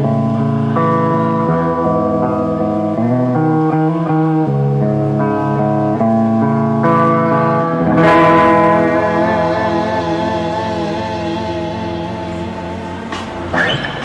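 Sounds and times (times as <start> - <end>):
live rock band playing: 0.0 - 13.5
guitar chords ringing: 0.0 - 14.0.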